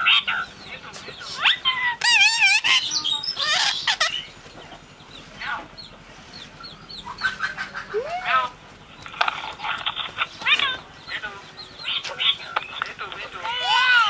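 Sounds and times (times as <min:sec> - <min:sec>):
bird chirps and squawks: 0:01.2 - 0:08.6, 0:09.3 - 0:14.0.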